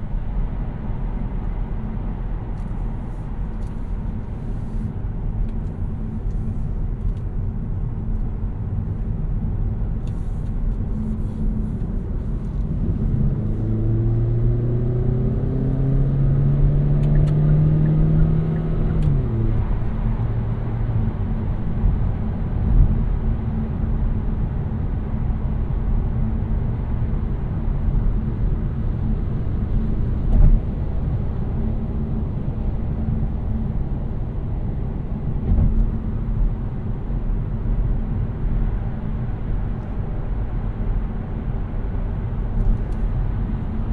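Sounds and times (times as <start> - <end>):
road and tyre rumble: 0.0 - 43.9.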